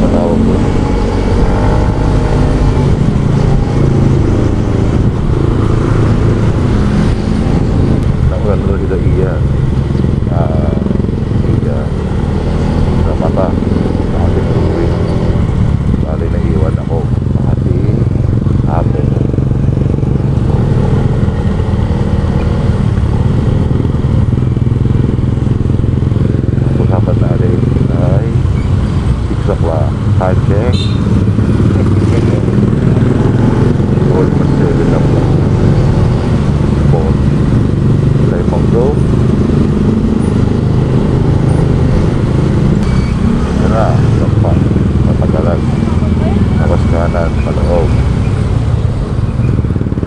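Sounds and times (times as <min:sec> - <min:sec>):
wind noise on microphone: 0:00.0 - 0:47.0, 0:47.8 - 0:50.0
small motorcycle engine running: 0:00.0 - 0:50.0.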